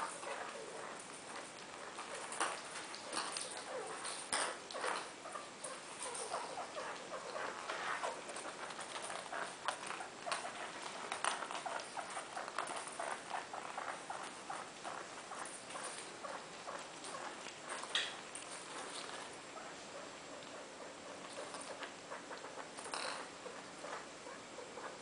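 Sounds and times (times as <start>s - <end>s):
rats scampering on carpet: 0.0s - 25.0s.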